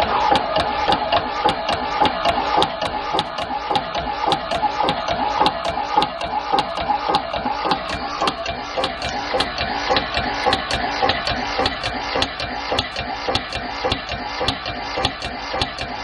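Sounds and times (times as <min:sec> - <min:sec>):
vacuum pump bellows strokes: 0:00.0 - 0:16.0.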